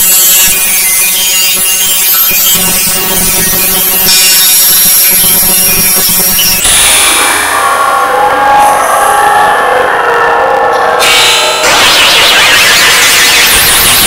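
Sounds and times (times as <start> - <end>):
humming tones: 0.0 - 14.0
robotic filtered voice: 0.0 - 14.0.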